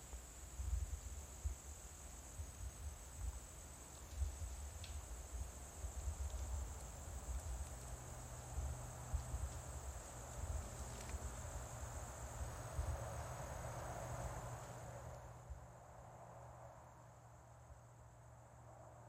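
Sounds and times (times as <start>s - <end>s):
insect chirring: 0.0s - 18.8s.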